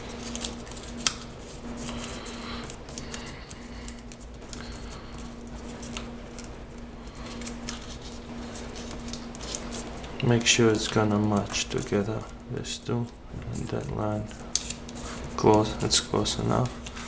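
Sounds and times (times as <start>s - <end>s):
sharp paper crackle: 0.0s - 12.0s, 13.5s - 17.0s
paper being folded and creased: 0.0s - 12.1s, 13.5s - 17.0s.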